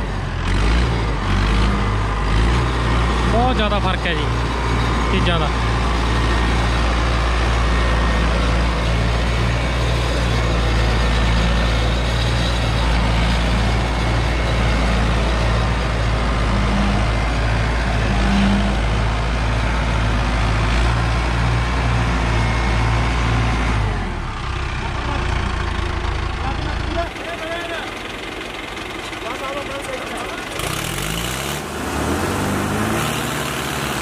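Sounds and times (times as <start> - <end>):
tractor diesel engine throbbing: 0.0 - 34.0.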